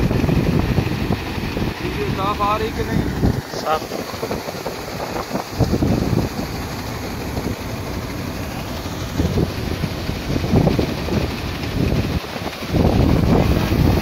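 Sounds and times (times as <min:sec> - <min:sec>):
combine harvester running: 0:00.0 - 0:14.0
grain pouring from auger: 0:00.0 - 0:14.0
wind buffeting microphone: 0:00.0 - 0:14.0.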